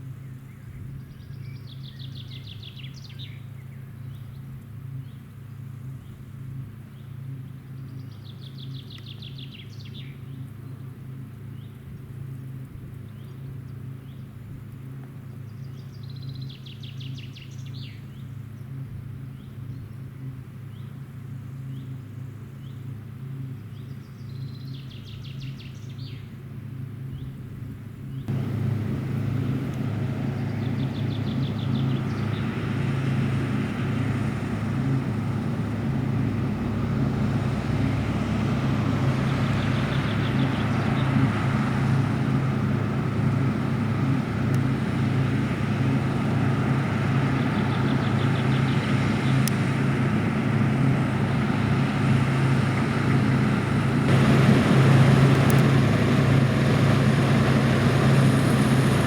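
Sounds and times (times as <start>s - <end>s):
diesel farm machinery drone: 0.0s - 59.0s.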